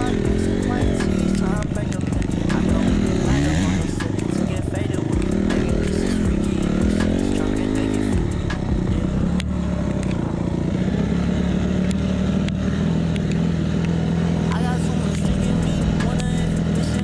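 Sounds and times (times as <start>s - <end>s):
sharp clicks: 0.0s - 10.3s, 11.8s - 14.0s, 15.0s - 17.0s
motorcycle engine revving: 0.0s - 17.0s.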